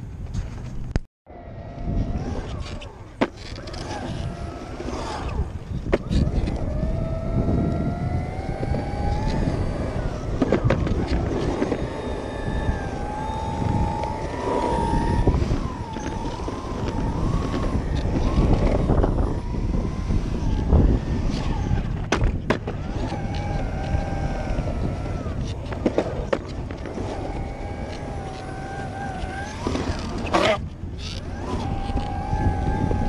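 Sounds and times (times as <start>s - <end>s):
wheels rumbling on concrete: 0.0s - 33.0s
electric motor whining: 1.3s - 33.0s.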